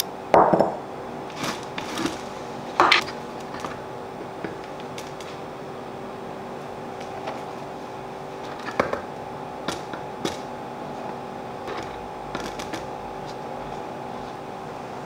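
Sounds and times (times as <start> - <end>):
steady appliance hum: 0.0 - 15.0.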